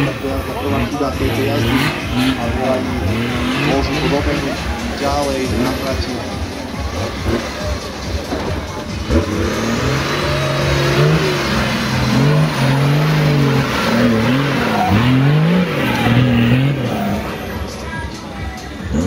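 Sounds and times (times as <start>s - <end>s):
engine revving hard: 0.0s - 8.0s, 8.9s - 17.6s.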